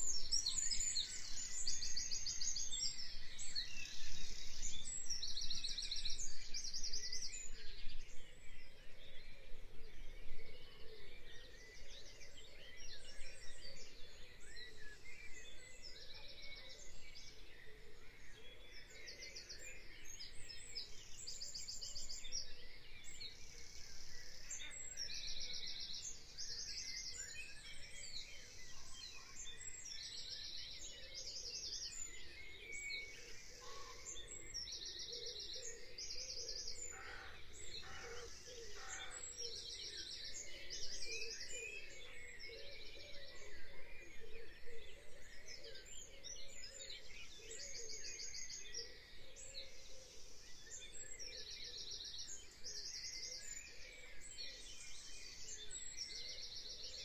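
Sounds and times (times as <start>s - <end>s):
songbirds singing trills: 0.0s - 57.0s.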